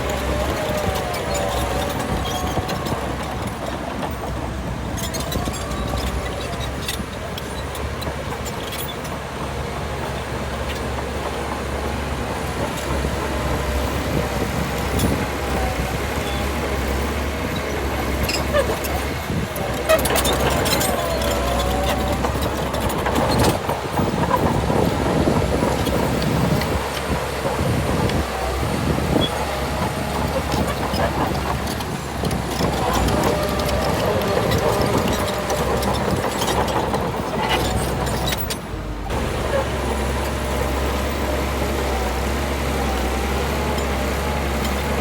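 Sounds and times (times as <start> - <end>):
bulldozer diesel engine running: 0.0 - 45.0.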